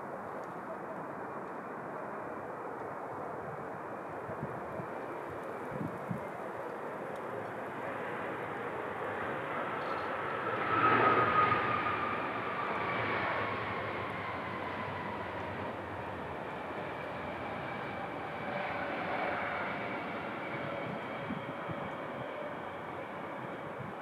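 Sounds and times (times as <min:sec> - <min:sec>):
jet engine whine: 0:00.0 - 0:24.0.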